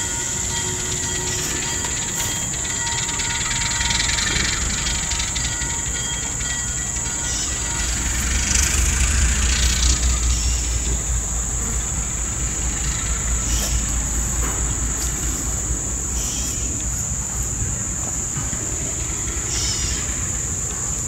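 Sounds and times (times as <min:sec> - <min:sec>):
high-pitched insect buzz: 0:00.0 - 0:17.6
locomotive diesel engine rumbling: 0:00.0 - 0:21.0.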